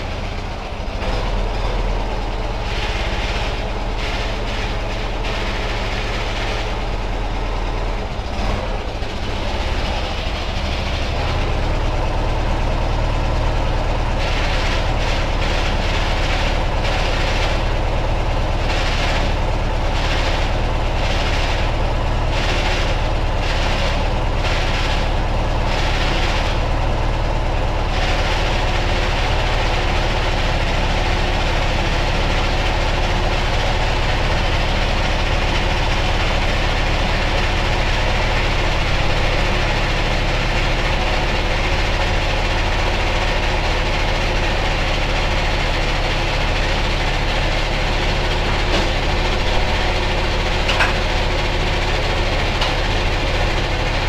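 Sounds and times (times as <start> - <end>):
machine running with pulsing: 0.0 - 54.0.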